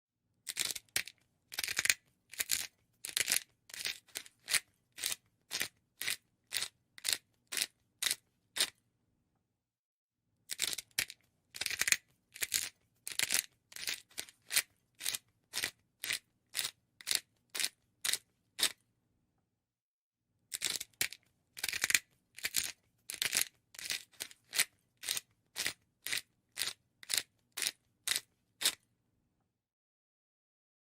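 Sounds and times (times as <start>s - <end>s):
pepper mill grinding: 0.4s - 8.7s, 10.5s - 18.8s, 20.5s - 28.8s.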